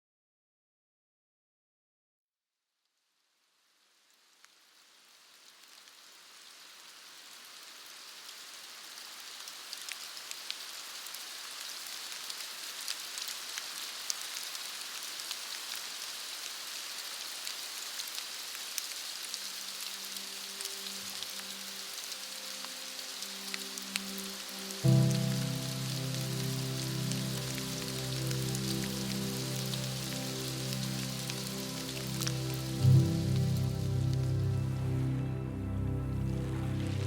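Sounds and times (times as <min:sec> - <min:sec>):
steady rain falling: 0:03.4 - 0:37.0.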